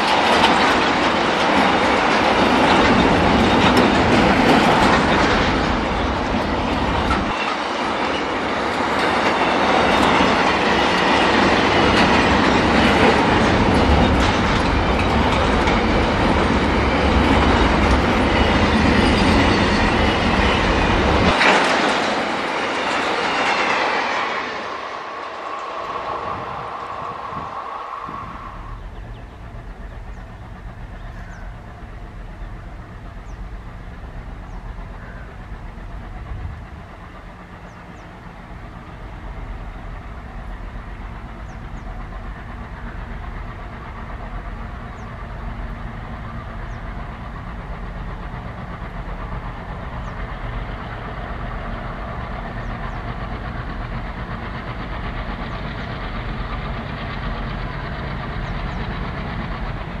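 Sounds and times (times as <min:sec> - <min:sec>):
diesel locomotive engine drone: 0:00.0 - 1:00.0.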